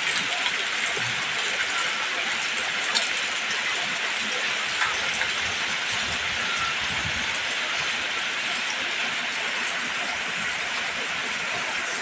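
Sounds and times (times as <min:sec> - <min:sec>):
raindrops ticking: 0:00.0 - 0:11.2
heavy rain falling: 0:00.0 - 0:12.0.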